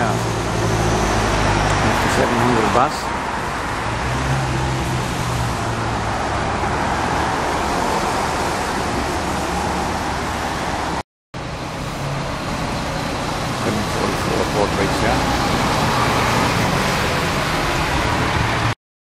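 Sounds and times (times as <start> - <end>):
tyres hissing on wet road: 0.0 - 18.7
bus engine approaching: 0.0 - 18.8.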